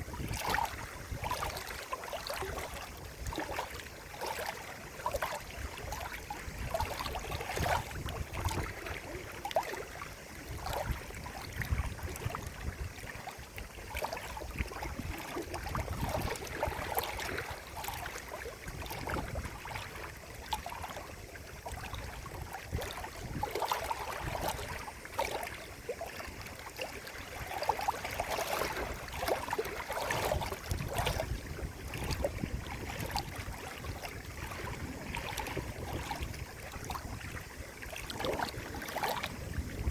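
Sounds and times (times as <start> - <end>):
water running and gurgling: 0.0 - 39.9.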